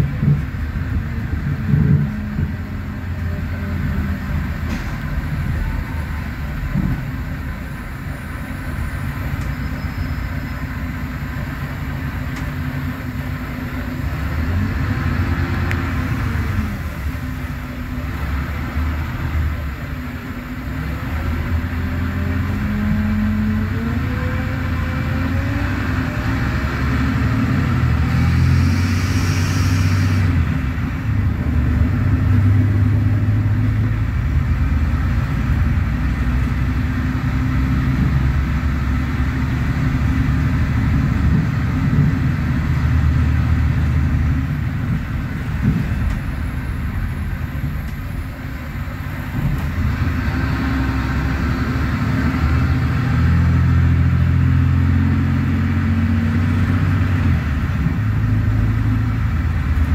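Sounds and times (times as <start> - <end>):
bus diesel engine under load: 0.0 - 59.9.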